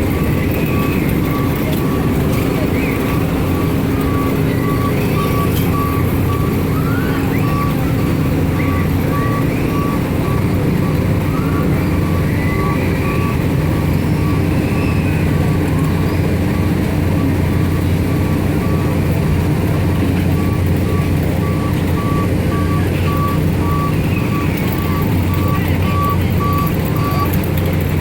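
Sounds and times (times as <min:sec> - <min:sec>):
high electronic beeps: 0:00.0 - 0:19.0, 0:20.0 - 0:27.5
ride engine rumble: 0:00.0 - 0:28.0.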